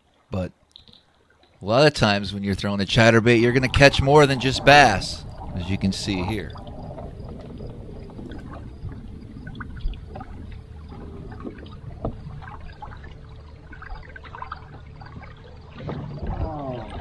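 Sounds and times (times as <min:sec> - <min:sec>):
faint steady hum: 0:00.1 - 0:17.0
water lapping against boat hull: 0:02.4 - 0:17.0.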